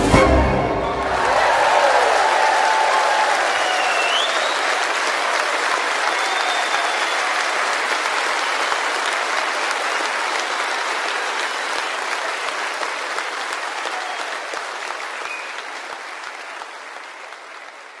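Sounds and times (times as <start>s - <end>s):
audience applauding: 0.6s - 18.0s.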